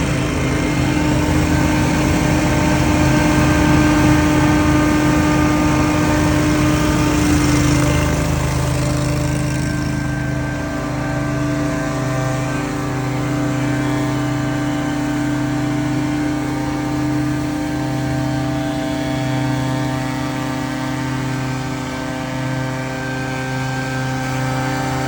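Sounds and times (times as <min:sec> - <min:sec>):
leaf blower engines running: 0:00.0 - 0:25.0.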